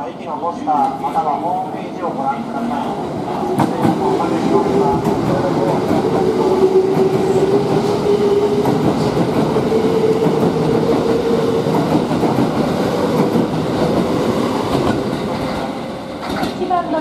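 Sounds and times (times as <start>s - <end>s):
train wheels rumbling on rails: 2.8s - 17.0s.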